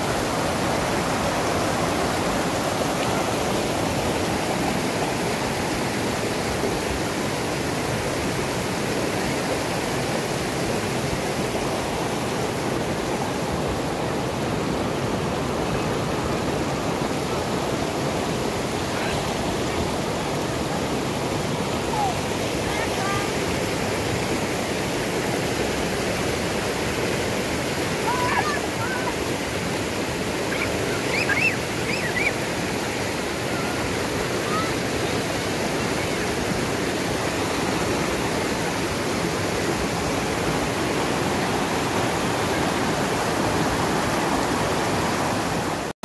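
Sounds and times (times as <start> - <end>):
river water rushing over rocks: 0.0 - 45.9.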